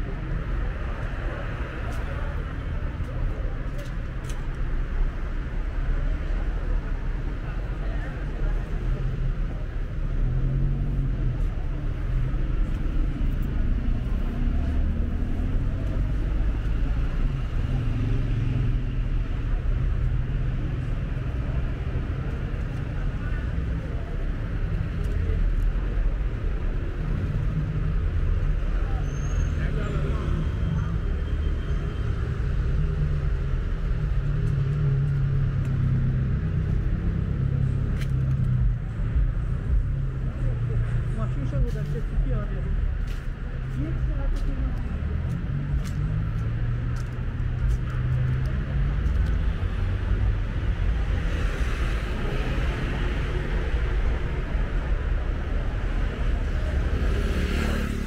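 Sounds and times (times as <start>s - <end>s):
car engines: 0.0s - 58.0s
traffic rumble: 0.0s - 58.0s
tyres on the road: 0.0s - 58.0s.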